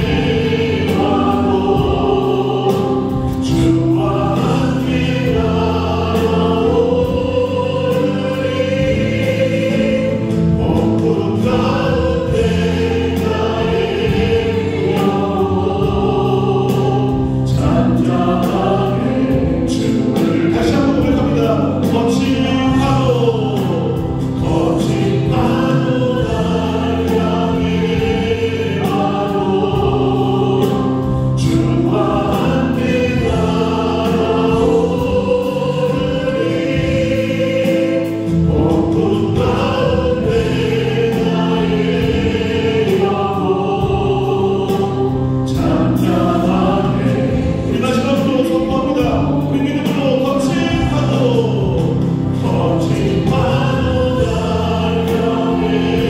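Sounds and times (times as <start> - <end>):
keyboard drums and bass band: 0.0 - 56.0
people singing gospel song: 0.0 - 56.0.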